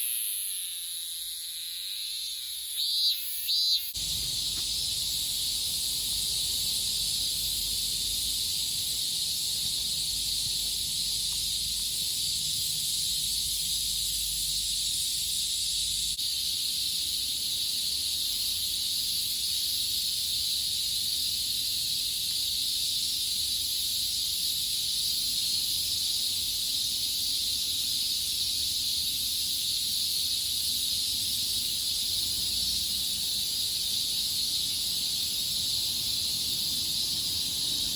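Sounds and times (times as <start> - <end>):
cicadas hissing: 0.0 - 37.9.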